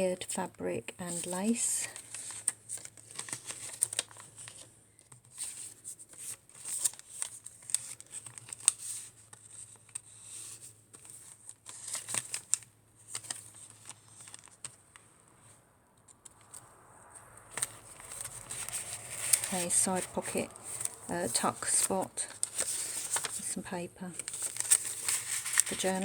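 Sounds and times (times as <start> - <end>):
paper pages rustling and crinkling: 0.9 - 15.6, 16.2 - 26.0.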